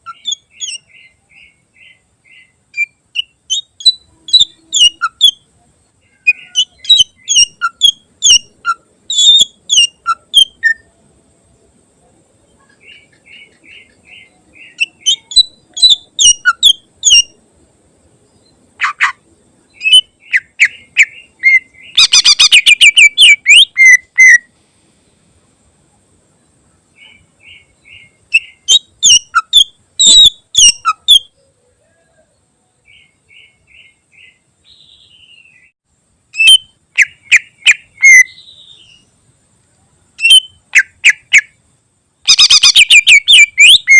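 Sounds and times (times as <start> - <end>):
bird singing whistled notes: 0.0 - 5.5, 6.1 - 10.9, 12.7 - 17.4, 18.3 - 24.5, 27.0 - 35.8, 36.4 - 39.1, 40.2 - 41.6, 42.3 - 43.9.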